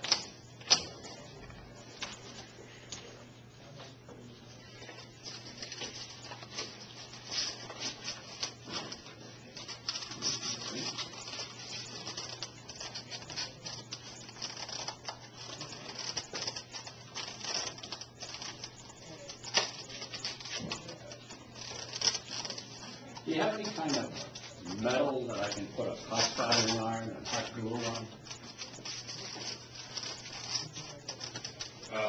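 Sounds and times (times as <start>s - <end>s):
steady low hum: 0.0s - 32.0s
plastic packaging crinkling: 4.9s - 32.0s.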